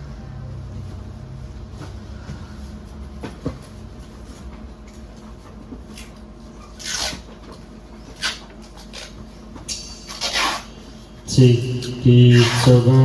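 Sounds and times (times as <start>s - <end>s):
sound system hum: 0.0s - 13.0s.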